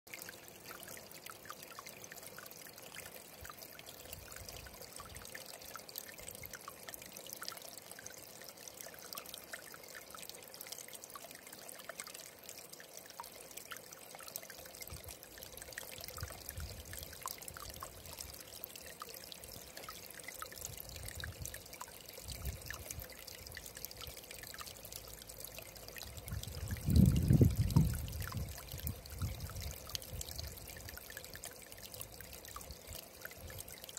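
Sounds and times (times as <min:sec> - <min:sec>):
stream trickling over stones: 0:00.1 - 0:33.9.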